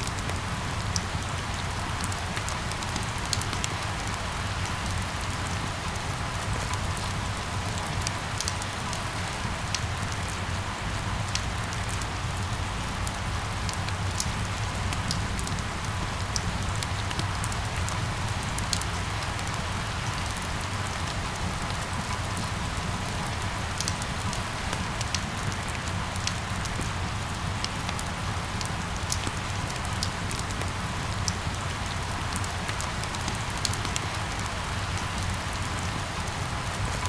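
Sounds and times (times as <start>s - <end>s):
rain on hard surfaces: 0.0s - 37.0s.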